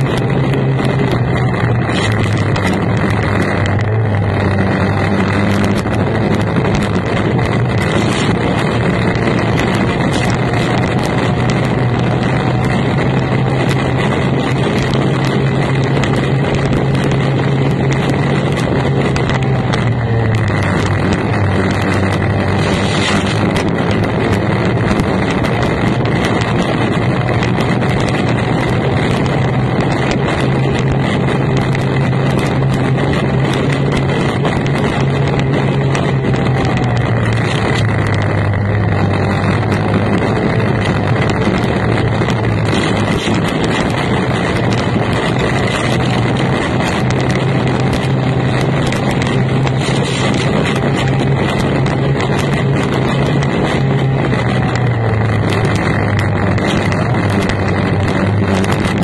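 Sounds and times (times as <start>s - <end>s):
outboard engine running hard: 0.0s - 59.0s
wind noise on microphone: 0.0s - 59.0s.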